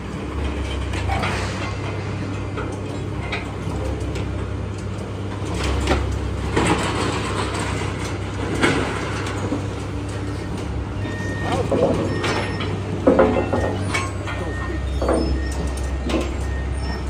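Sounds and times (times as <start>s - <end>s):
low machine drone: 0.0s - 17.0s
steel conveyor slats clanking: 0.2s - 17.0s.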